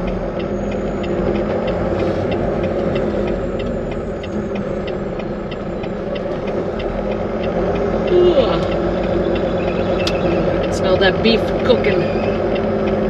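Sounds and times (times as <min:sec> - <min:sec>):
truck engine running: 0:00.0 - 0:13.0
turn signal ticking: 0:00.0 - 0:13.0.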